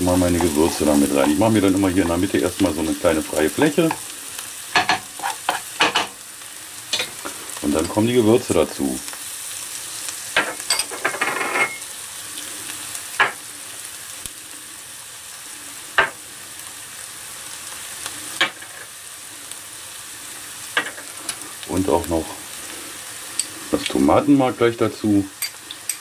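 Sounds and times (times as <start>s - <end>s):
onions sizzling in a pan: 0.0s - 26.0s.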